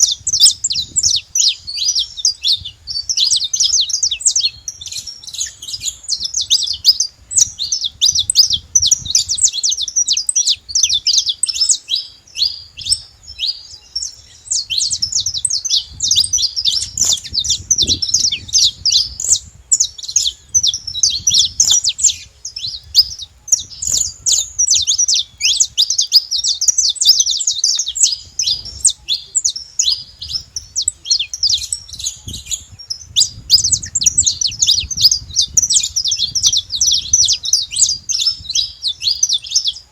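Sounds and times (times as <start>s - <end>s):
finch singing rapid chirps: 0.0s - 39.9s.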